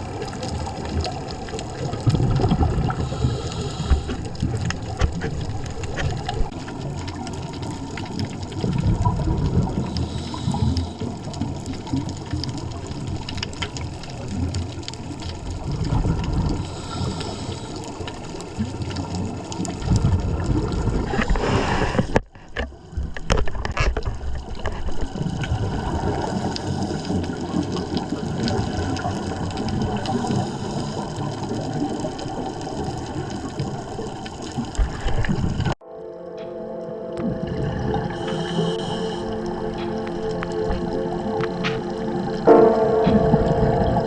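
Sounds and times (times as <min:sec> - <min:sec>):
underwater rushing and bubbling water: 0:00.0 - 0:44.0.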